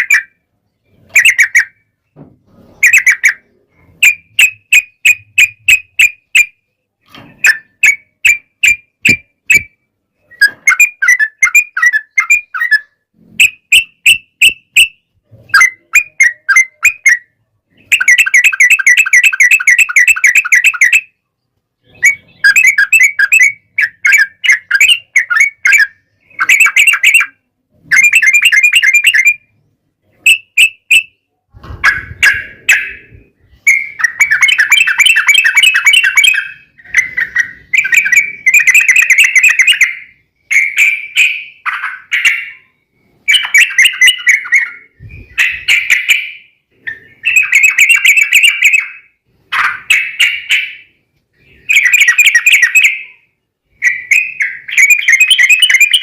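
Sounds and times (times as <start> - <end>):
bird chattering calls: 1.0 - 1.9, 2.8 - 6.5, 7.4 - 21.0, 21.8 - 29.4, 31.8 - 56.0.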